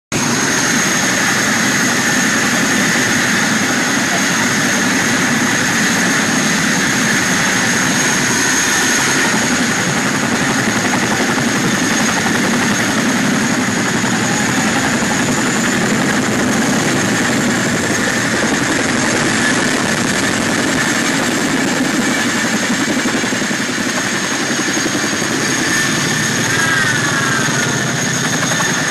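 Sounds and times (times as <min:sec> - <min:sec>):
helicopter rotor and engine: 0:00.1 - 0:28.9
high turbine whine: 0:00.1 - 0:28.9.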